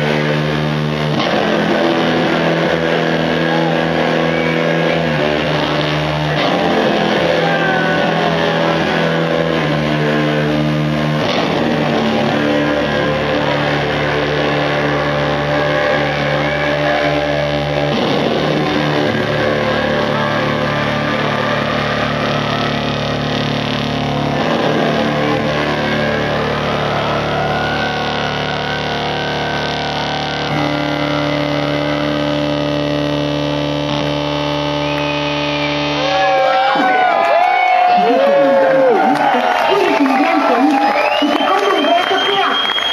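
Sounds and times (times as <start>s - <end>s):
baritone saxophone low notes: 0.0s - 36.6s
live instrumental rock: 0.0s - 42.9s.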